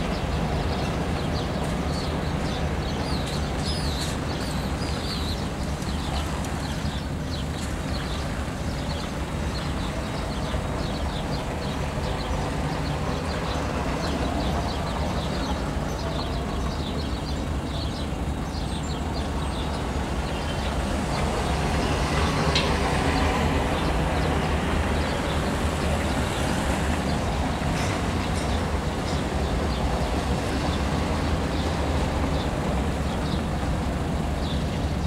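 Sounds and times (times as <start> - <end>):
small birds chirping: 0.2 - 35.0.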